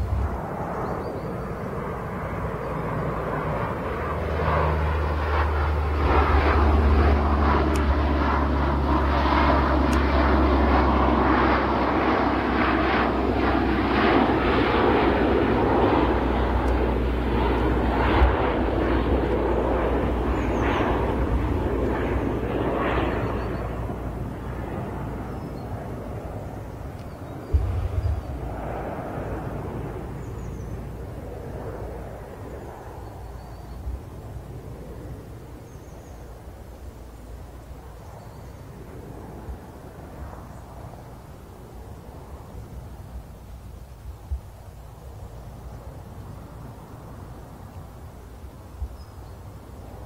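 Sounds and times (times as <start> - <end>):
propeller plane droning overhead: 0.0 - 50.0.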